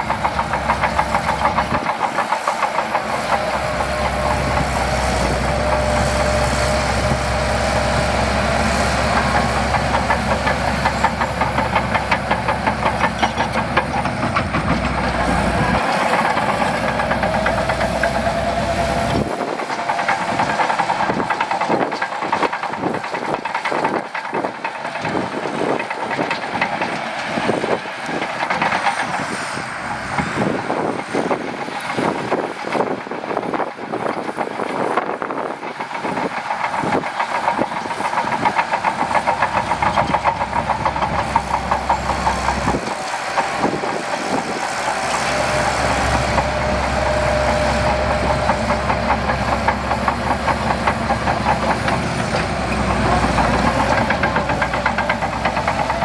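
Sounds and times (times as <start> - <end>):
bulldozer tracks clanking: 0.0 - 56.0
diesel engine rumble: 0.0 - 56.0.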